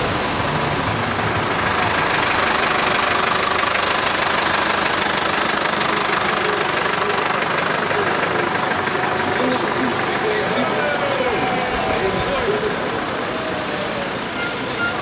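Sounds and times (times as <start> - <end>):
jeep engine passing: 0.0 - 15.0
tractor diesel engine running: 0.0 - 15.0.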